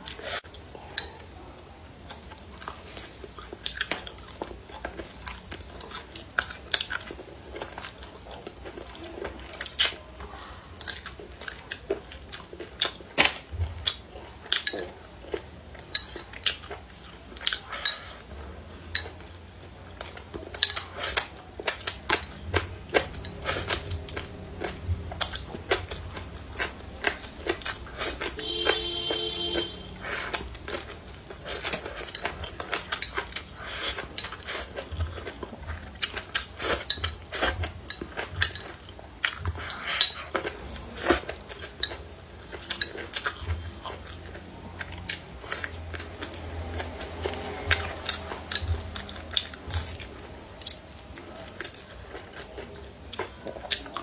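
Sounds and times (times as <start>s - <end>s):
chewing: 0.0s - 54.0s.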